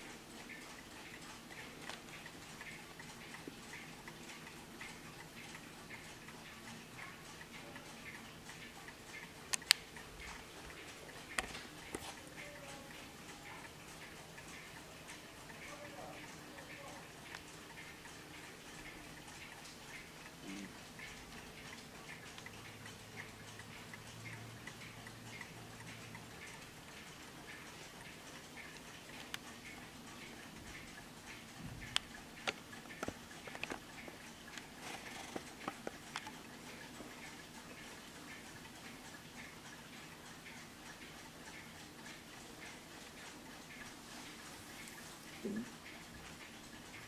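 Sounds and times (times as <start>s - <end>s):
clock ticking: 0.0s - 47.0s.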